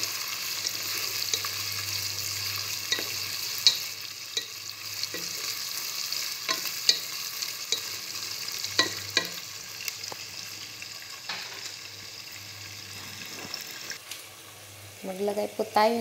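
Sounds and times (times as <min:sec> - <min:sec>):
shrimp sizzling in hot oil: 0:00.0 - 0:16.0.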